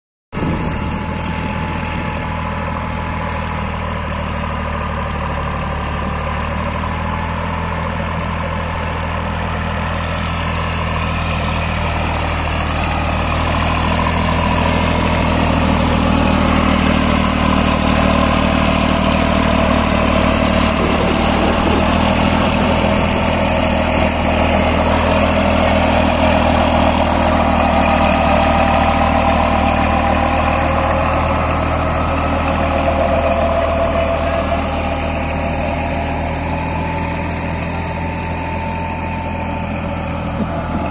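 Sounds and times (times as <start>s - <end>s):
tractor diesel engine running: 0.3s - 40.9s
rotavator tilling soil: 0.4s - 40.9s.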